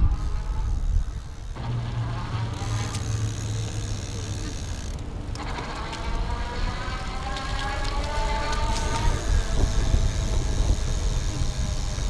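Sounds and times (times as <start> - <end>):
wind rumble on microphone: 0.0 - 3.0, 5.3 - 12.0
electric bike motor whining: 0.0 - 12.0.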